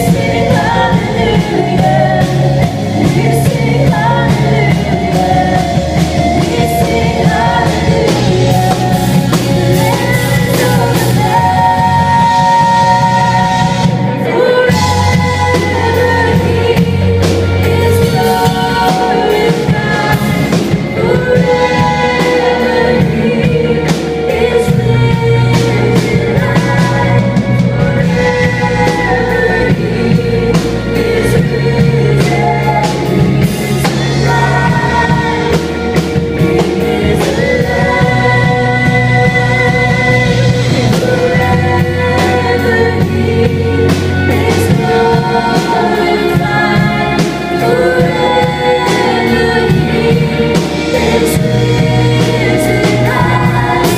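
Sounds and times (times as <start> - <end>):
drum kit: 0.0 - 53.9
electric guitars: 0.0 - 53.9
keyboard: 0.0 - 53.9
woman singing through pa: 0.0 - 53.9.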